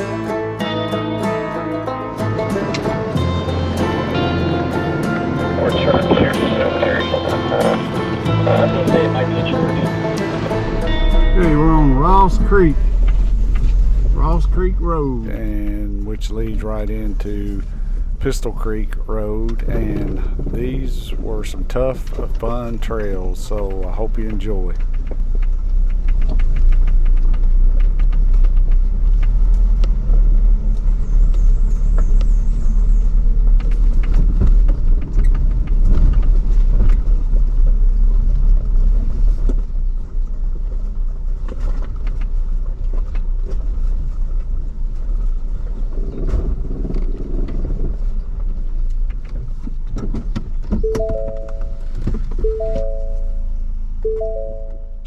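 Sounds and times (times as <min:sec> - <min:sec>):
engine rumbling: 0:00.0 - 0:55.0.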